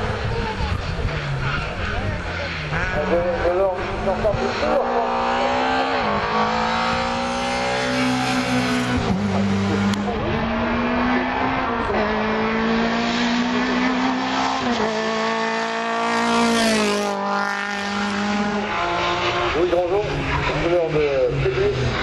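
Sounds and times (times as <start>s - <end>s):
race car engine at full throttle: 0.0s - 22.0s.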